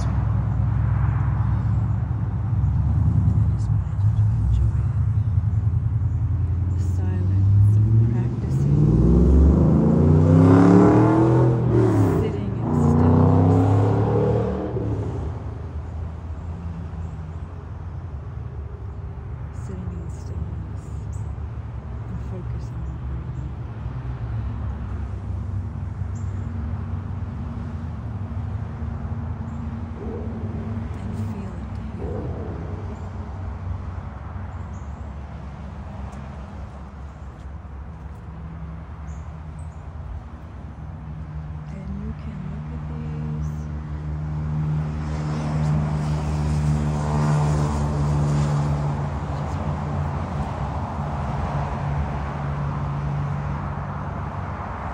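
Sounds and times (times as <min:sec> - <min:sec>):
vehicle passing by: 0:00.0 - 0:54.9.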